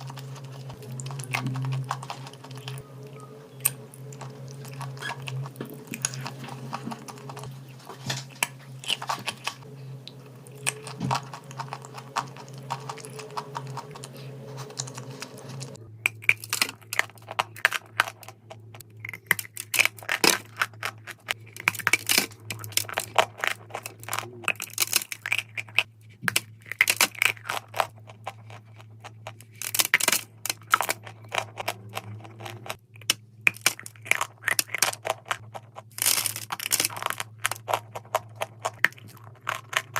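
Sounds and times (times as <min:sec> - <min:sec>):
dry clay crunching: 0:00.0 - 0:39.9
faint steady hum: 0:00.0 - 0:39.9.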